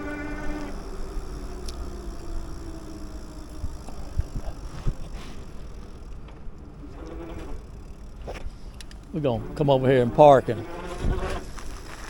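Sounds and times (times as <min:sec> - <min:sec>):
bicycle riding rumble: 0:00.0 - 0:12.0
faint engine tone: 0:00.0 - 0:12.0.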